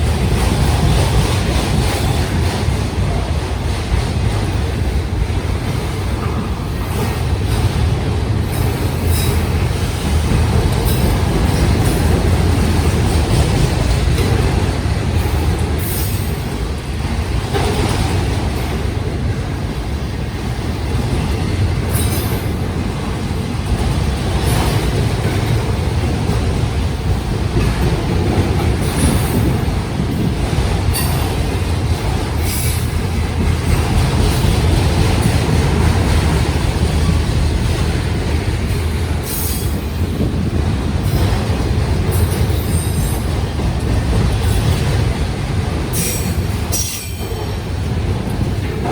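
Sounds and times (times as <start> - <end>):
steel wheels rumbling on rail: 0.0 - 48.9.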